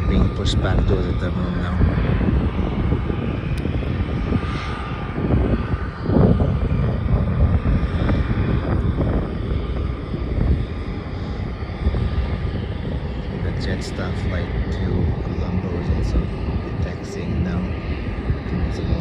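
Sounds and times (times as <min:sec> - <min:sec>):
faint engine whine: 0:00.0 - 0:19.0
jet engines roaring: 0:00.0 - 0:19.0.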